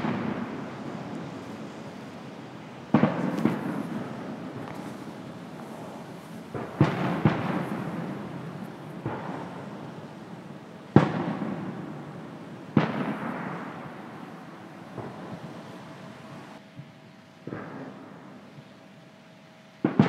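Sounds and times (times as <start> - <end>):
fireworks booming with echo: 0.0 - 18.5, 19.8 - 20.0.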